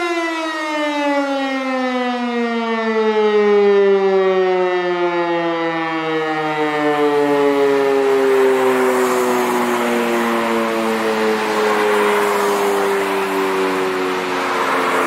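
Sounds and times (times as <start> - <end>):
rotary siren winding down: 0.0 - 15.0.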